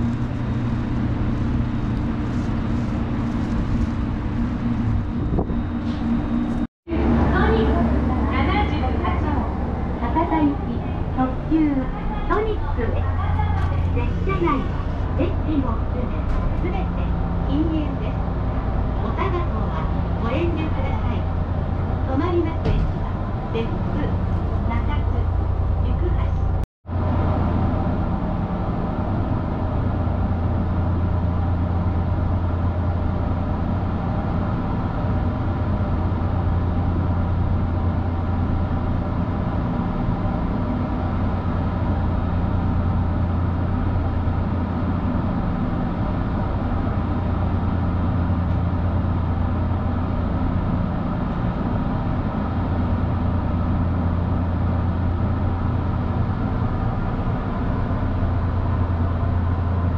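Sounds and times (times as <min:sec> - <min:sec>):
train cabin equipment hum: 0:00.0 - 0:59.9.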